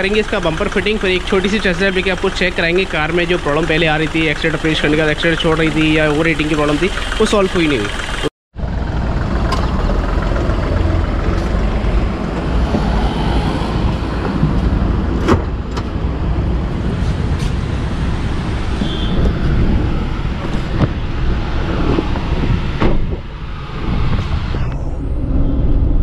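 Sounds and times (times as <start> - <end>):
motor vehicle rumbling: 0.0 - 26.0.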